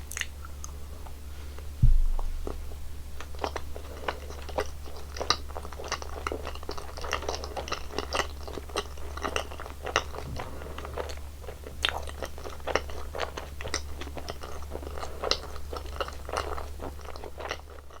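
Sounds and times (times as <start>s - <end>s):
chewing and crunching sweets: 0.0s - 1.7s, 3.2s - 18.0s
steady low hum: 0.0s - 6.5s, 7.9s - 16.1s.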